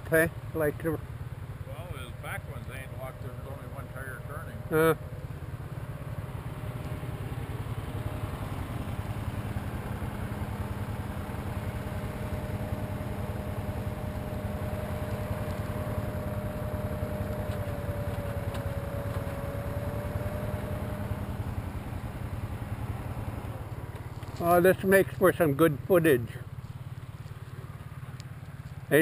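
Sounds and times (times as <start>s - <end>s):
atv engine idling: 0.0s - 29.0s.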